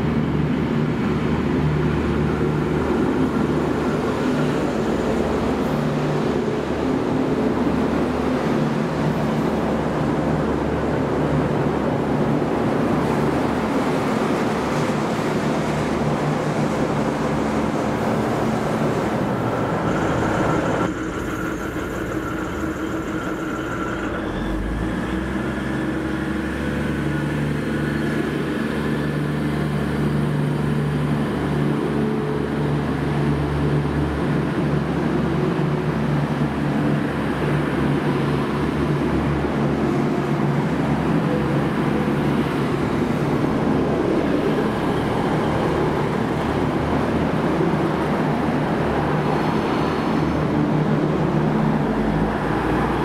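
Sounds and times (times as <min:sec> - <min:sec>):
diesel engine hum: 0:00.0 - 0:53.0
train cars running on rails: 0:00.0 - 0:53.0.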